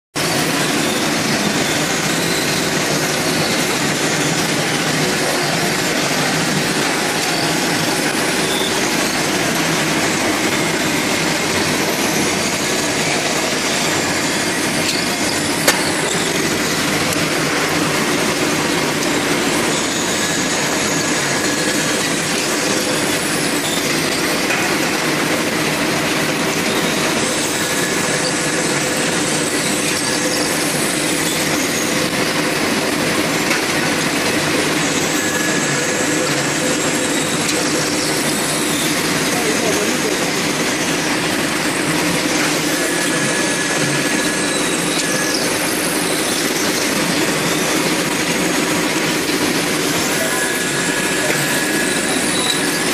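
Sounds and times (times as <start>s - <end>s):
machining line mechanical din: 0.2s - 52.9s.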